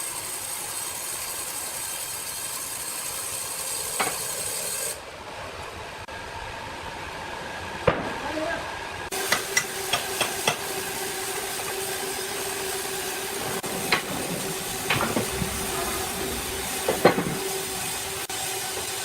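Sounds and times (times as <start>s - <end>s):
sawmill machinery hiss and hum: 0.0s - 19.0s.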